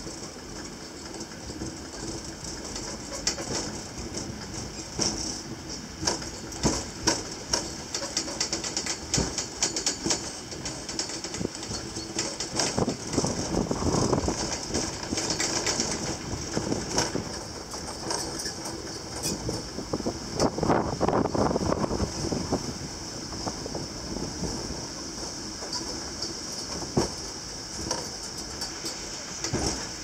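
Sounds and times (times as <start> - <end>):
funicular car shaking and creaking: 0.0 - 22.6, 23.4 - 30.0
wheels clicking on rails: 0.0 - 30.0.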